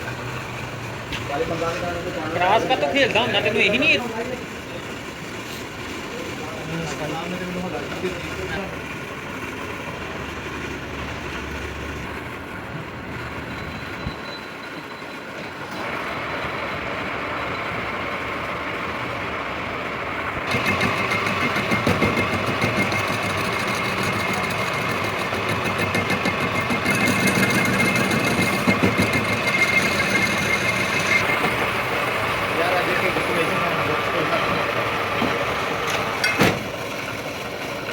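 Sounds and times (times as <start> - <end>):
lathe running: 0.0 - 37.9.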